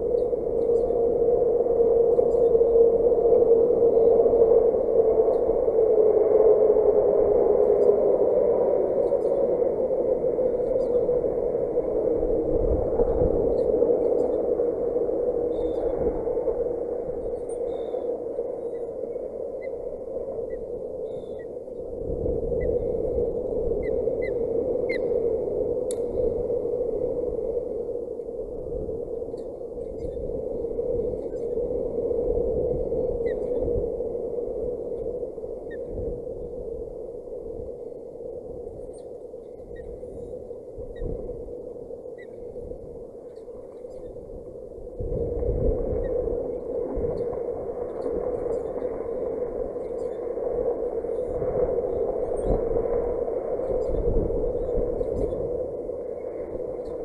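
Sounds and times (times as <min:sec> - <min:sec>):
strong wind on microphone: 0:00.0 - 0:57.0.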